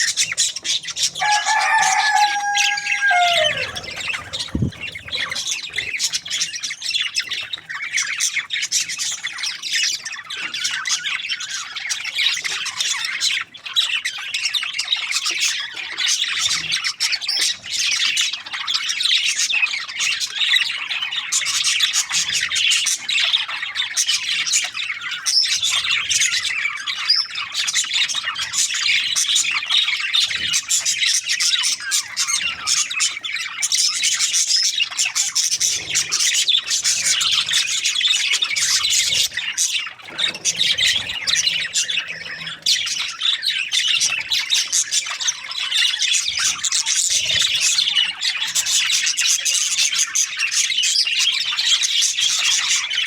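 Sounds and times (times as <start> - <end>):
budgerigars chattering: 0.0 - 53.0.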